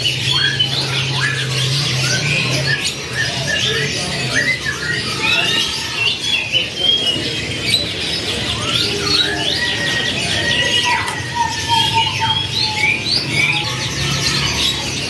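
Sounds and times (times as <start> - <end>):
canaries chirping: 0.0 - 15.0.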